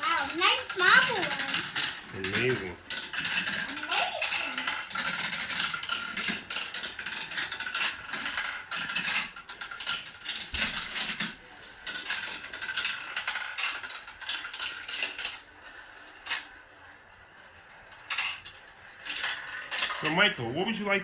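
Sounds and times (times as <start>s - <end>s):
marbles rattling down marble run: 0.0s - 21.0s.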